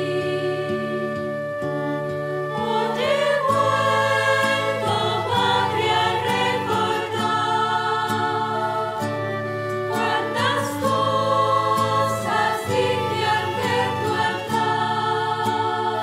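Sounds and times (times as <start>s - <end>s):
devotional singing: 0.0s - 16.0s.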